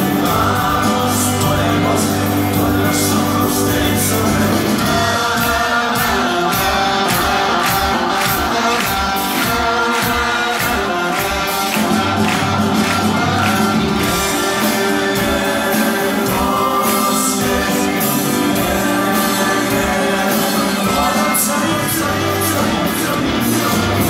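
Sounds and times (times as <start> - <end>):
live rock band playing: 0.0 - 24.0
person singing: 0.0 - 24.0.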